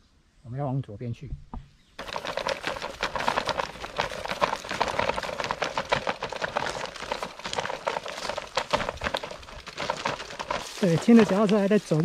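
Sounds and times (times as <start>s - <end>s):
bicycle clattering on rough path: 2.0s - 12.0s.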